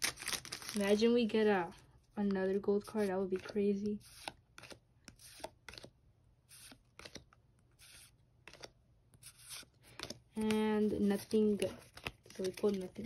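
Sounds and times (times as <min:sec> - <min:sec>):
trading cards flipped by hand: 0:02.2 - 0:13.0.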